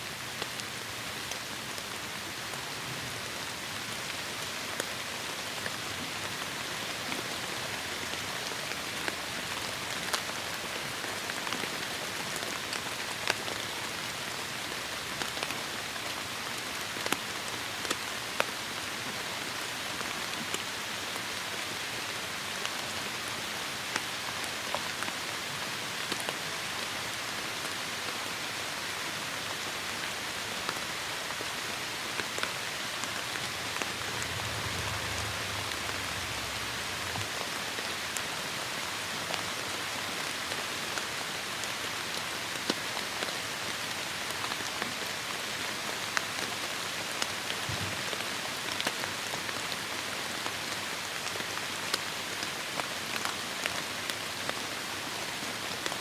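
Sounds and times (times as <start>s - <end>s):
heavy rain falling: 0.4s - 56.0s.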